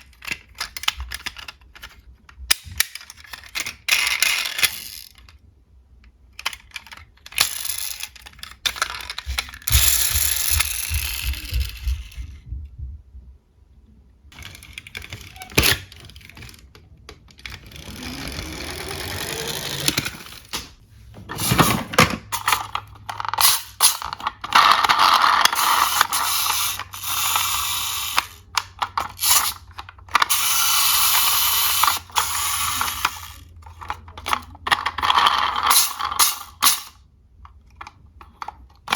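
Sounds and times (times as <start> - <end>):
toy cars rolling rumble: 0.0 - 5.5, 6.1 - 12.4, 14.3 - 20.6, 21.2 - 38.9
toy cars clicking and clacking: 0.0 - 12.4, 14.3 - 20.7, 21.4 - 38.9.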